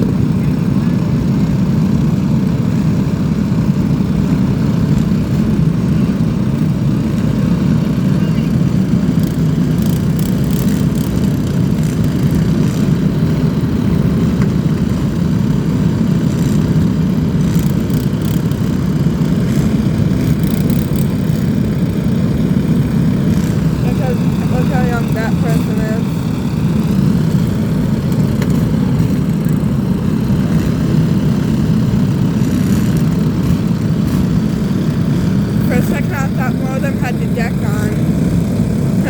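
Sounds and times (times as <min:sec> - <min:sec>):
lawn mower engines droning: 0:00.0 - 0:39.0.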